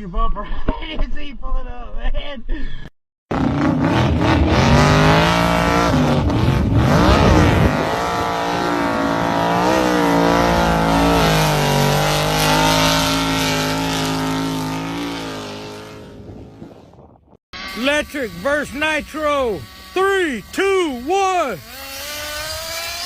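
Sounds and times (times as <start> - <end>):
engine running and revving: 3.3 - 23.0.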